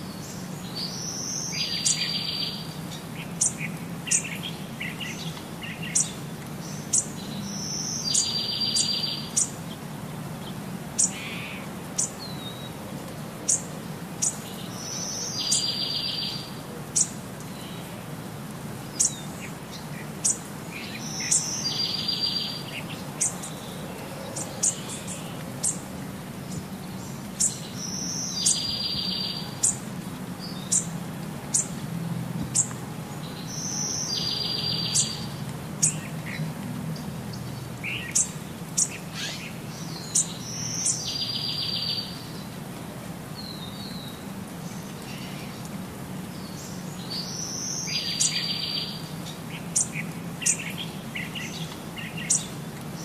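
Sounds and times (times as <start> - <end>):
birds chirping: 0.0 - 12.8, 13.5 - 18.0, 18.8 - 31.8, 32.5 - 42.6, 43.4 - 53.0.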